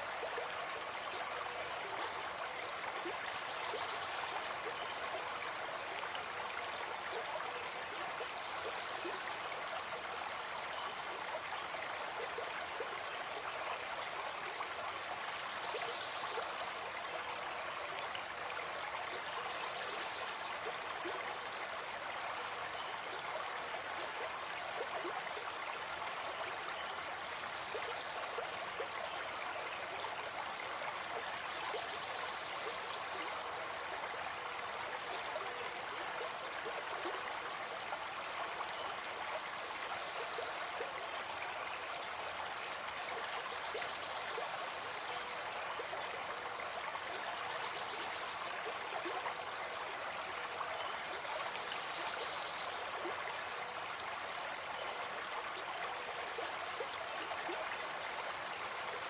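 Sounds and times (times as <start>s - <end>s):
stream gurgling over rocks: 0.0s - 59.0s.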